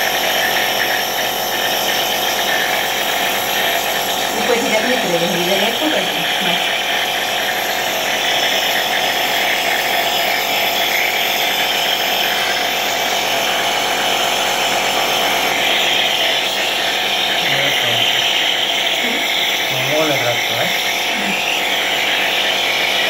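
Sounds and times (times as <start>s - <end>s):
compressor nebulizer running: 0.0s - 23.0s.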